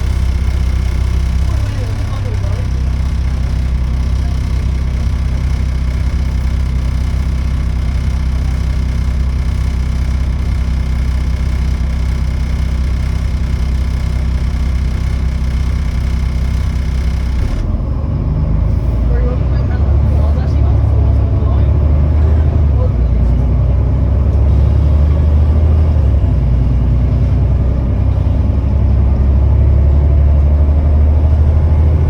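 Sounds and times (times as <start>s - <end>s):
bus diesel engine idling: 0.0s - 32.0s.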